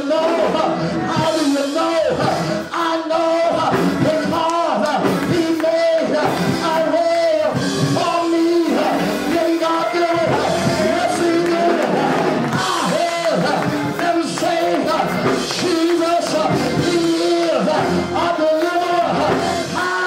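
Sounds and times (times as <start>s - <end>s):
music: 0.0s - 20.0s
preacher chanting: 0.0s - 20.0s.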